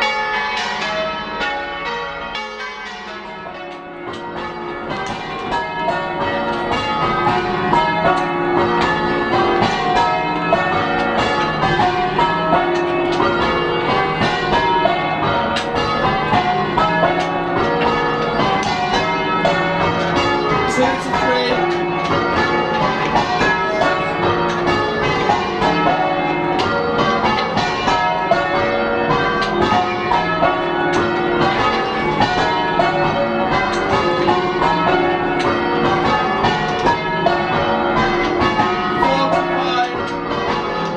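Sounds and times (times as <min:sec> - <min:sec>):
church bells change ringing: 0:00.0 - 0:40.9.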